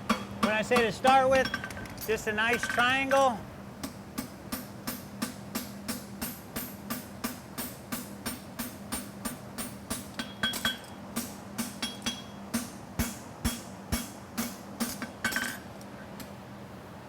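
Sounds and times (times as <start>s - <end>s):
hammer striking steel on anvil: 0.0s - 15.6s.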